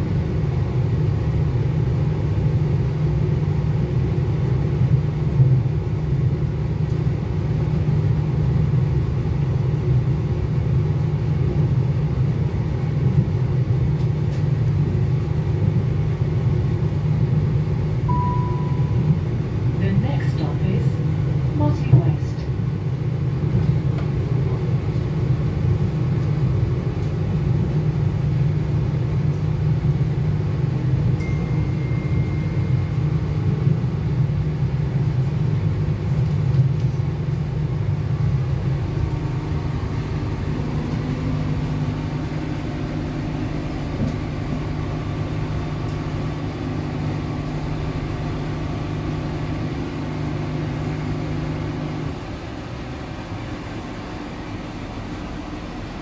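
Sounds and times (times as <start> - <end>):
train rumble from inside carriage: 0.0 - 56.0.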